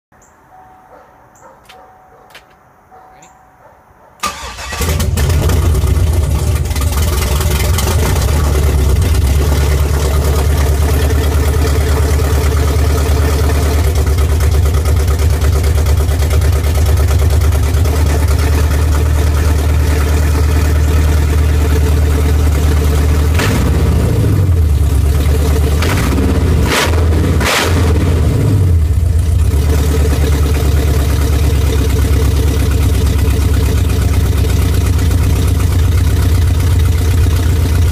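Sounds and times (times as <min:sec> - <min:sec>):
engine starting and idling: 0:04.2 - 0:37.9.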